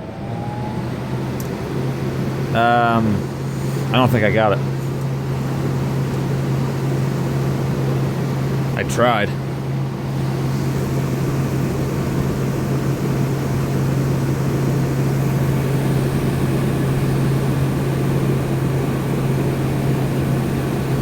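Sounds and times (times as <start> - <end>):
air conditioner fan humming: 0.0 - 21.0.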